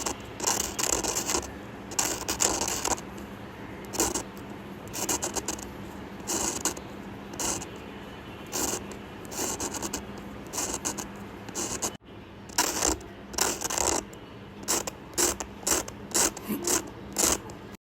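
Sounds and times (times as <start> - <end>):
drawing tool scratching paper: 0.0 - 3.2, 3.8 - 7.8, 8.4 - 17.7.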